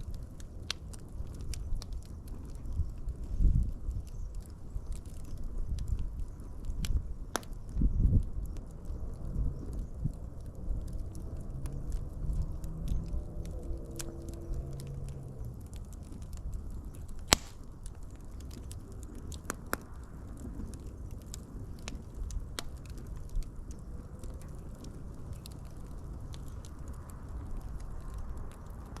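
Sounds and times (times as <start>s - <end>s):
fire crackling: 0.0s - 8.6s, 11.9s - 29.0s.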